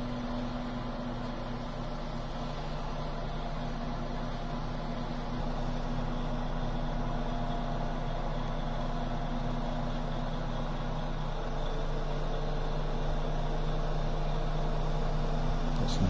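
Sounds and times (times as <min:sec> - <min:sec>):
lorry diesel engine running: 0:00.0 - 0:16.0.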